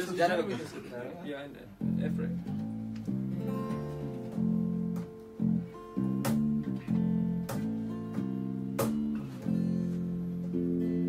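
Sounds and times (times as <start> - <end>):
acoustic guitar strumming chords: 1.8 - 11.0.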